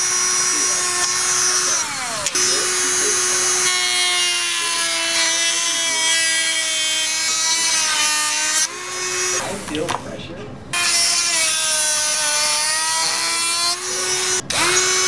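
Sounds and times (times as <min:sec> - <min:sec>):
rotary tool cutting plastic: 0:00.0 - 0:10.0, 0:10.8 - 0:15.0.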